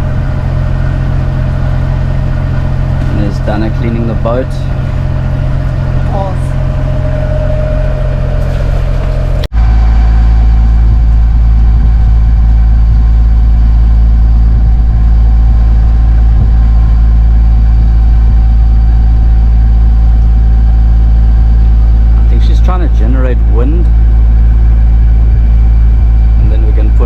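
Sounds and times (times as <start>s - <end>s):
boat engine droning: 0.0s - 27.0s
faint steady hum: 0.0s - 27.0s.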